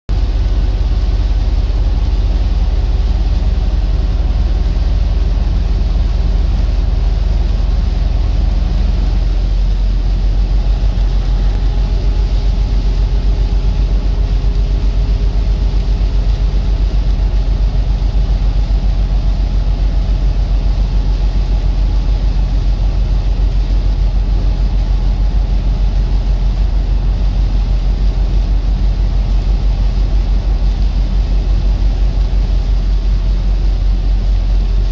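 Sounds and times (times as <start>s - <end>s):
road noise: 0.1s - 34.9s
truck engine drone: 0.1s - 34.9s.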